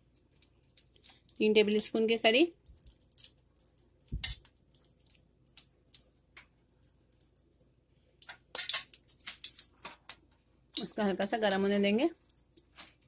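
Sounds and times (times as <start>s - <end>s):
oil crackling in frying pan: 0.0s - 13.0s.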